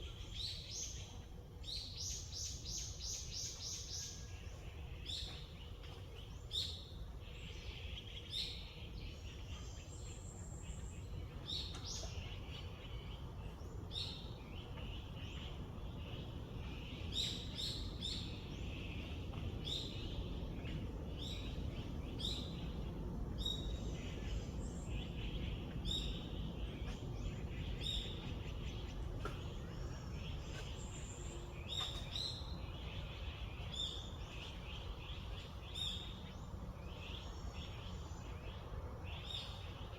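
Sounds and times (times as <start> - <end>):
low background rumble: 0.0 - 39.9
songbirds chirping: 0.0 - 39.9.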